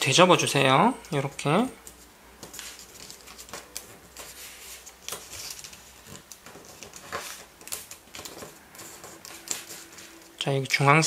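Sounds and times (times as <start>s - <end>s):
paper crinkling and rustling: 1.8s - 10.8s.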